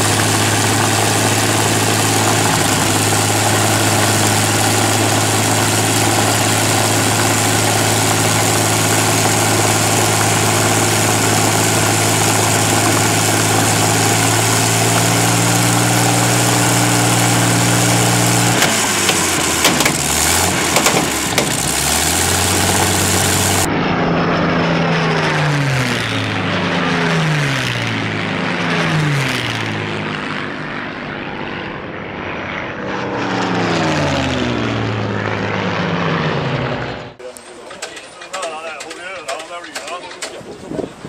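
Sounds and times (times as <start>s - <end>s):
propeller aircraft flying past: 0.0s - 40.4s
aero engine running: 0.0s - 41.0s.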